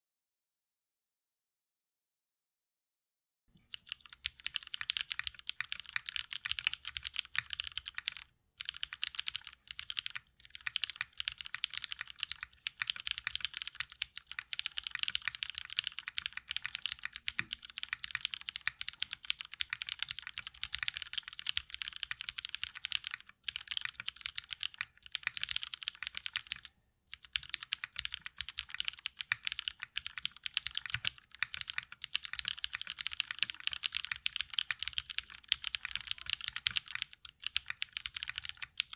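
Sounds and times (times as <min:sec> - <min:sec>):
fast typing on mechanical keyboard: 0:03.7 - 0:38.9.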